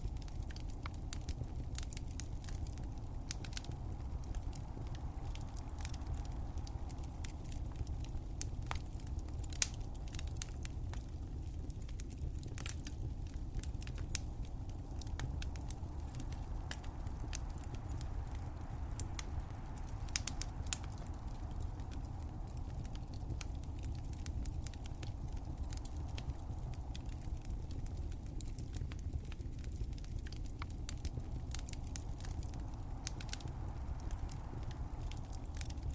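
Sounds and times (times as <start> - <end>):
fireplace fire crackling: 0.0 - 35.9.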